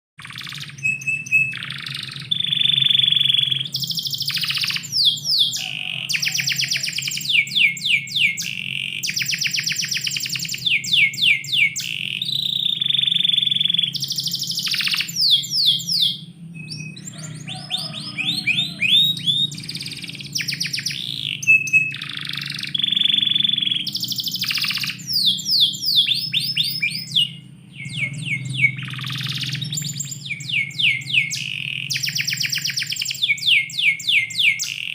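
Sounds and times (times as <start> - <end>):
canary singing: 0.2 - 34.9
steady low hum: 0.2 - 34.9.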